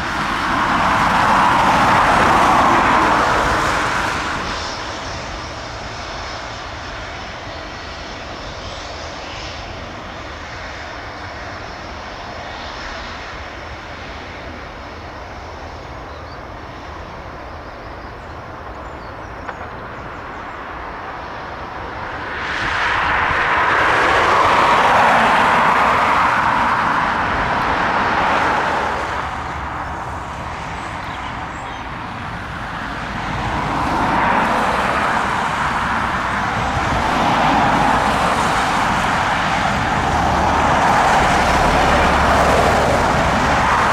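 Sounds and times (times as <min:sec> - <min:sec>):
jet engine rumble: 0:00.0 - 0:43.9.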